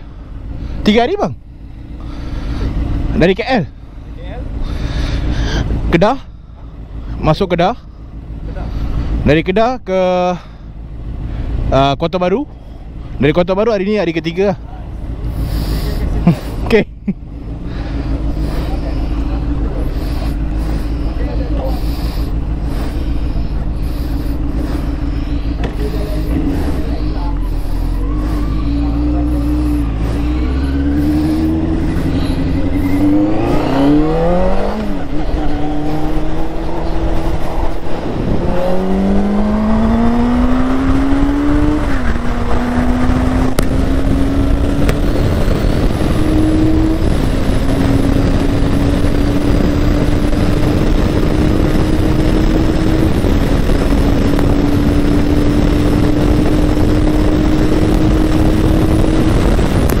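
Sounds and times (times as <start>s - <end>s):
motorcycle engine accelerating: 0.0s - 60.0s
wind and road noise: 0.0s - 60.0s.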